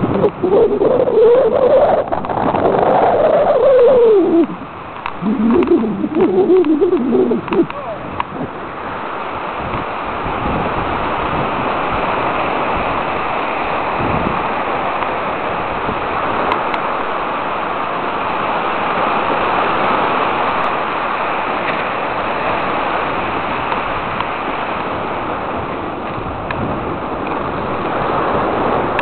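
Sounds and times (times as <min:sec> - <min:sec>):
surf washing onto beach: 0:00.0 - 0:29.0.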